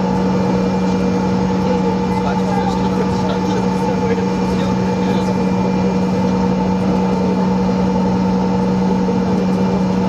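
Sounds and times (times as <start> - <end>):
aircraft cabin drone: 0.0 - 10.0.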